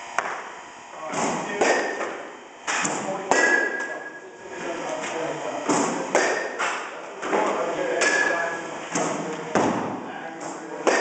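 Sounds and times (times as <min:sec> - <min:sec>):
voices in room: 0:00.9 - 0:11.0.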